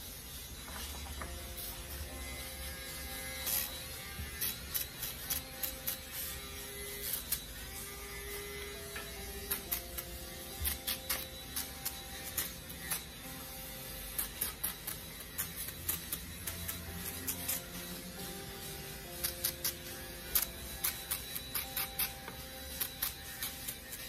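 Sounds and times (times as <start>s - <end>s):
small rotary tool motor whine: 0.0s - 24.0s.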